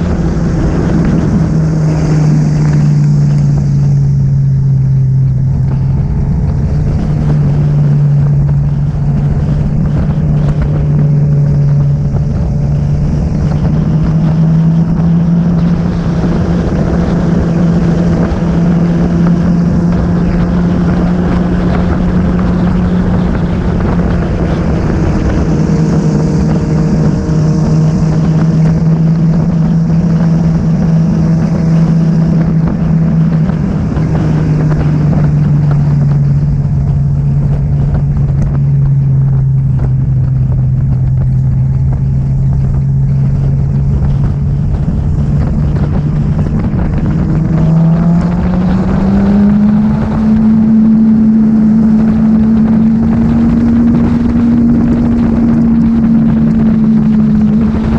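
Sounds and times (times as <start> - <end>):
motorcycle engine cruising: 0.0 - 57.9
wind and road noise: 0.0 - 57.9.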